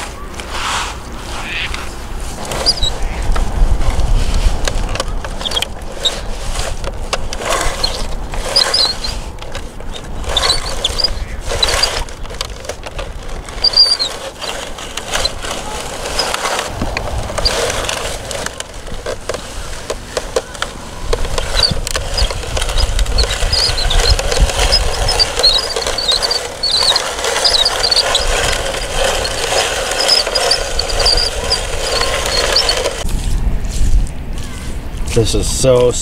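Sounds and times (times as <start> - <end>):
toy bulldozer scraping wet sand: 0.0 - 33.1
high squeaks: 1.0 - 3.6, 4.8 - 33.0
wind on microphone: 1.0 - 14.2, 15.0 - 36.0.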